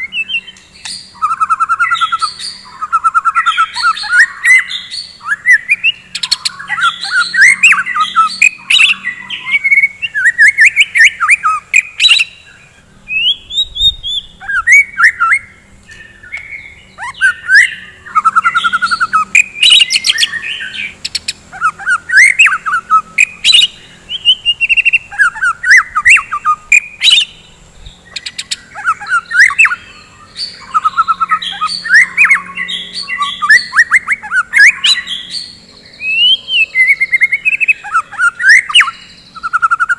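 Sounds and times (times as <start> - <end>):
songbird whistles and trills: 0.0 - 39.9.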